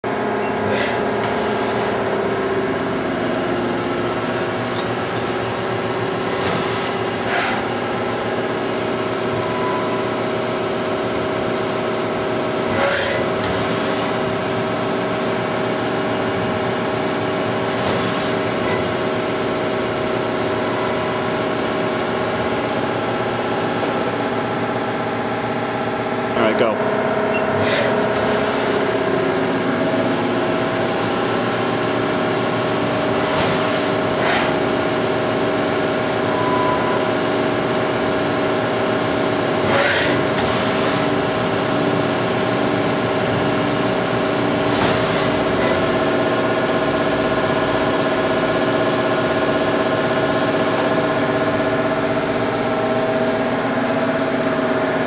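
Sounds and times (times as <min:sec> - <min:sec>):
machine whine: 0:00.0 - 0:55.0.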